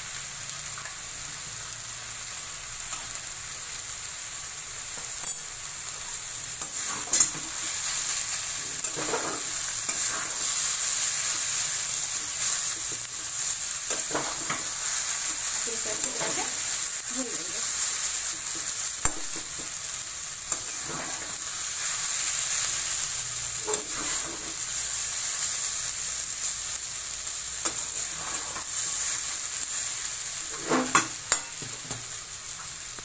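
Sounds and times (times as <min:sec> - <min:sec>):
noodles sizzling in hot oil: 0:00.0 - 0:33.0.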